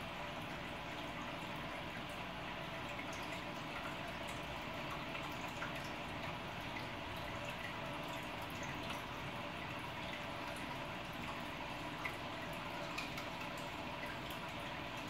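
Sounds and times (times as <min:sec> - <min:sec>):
aquarium bubbles: 0:00.0 - 0:15.0.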